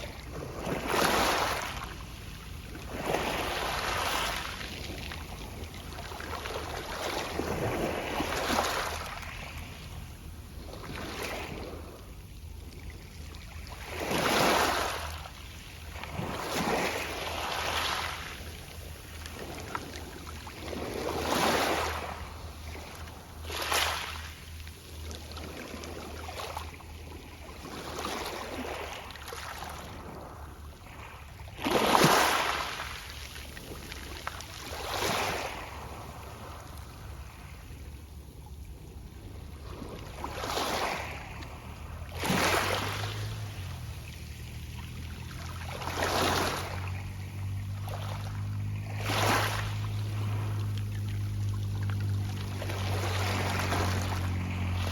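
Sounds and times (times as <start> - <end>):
waves breaking on pebble beach: 0.0 - 12.0, 13.3 - 24.6, 25.2 - 37.7, 39.4 - 54.9.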